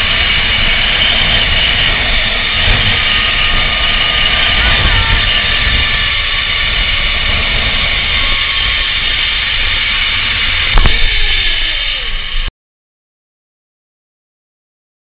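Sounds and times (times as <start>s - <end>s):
wind on microphone: 0.0s - 12.5s
zipline pulleys whining on cable: 0.0s - 12.5s.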